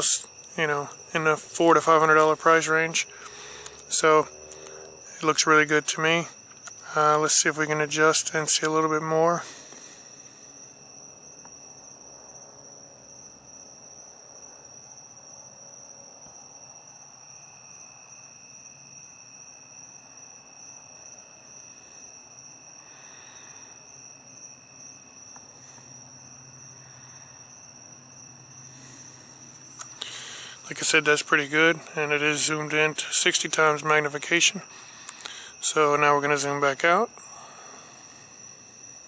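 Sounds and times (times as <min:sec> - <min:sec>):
high cricket trill: 0:00.0 - 0:39.0
lower cricket trill: 0:00.0 - 0:39.0.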